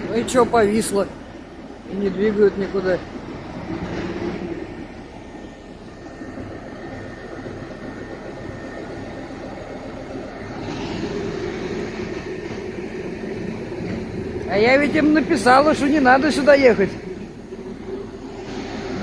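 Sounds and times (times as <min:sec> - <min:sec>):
engine drone with low hum: 0:00.0 - 0:19.0.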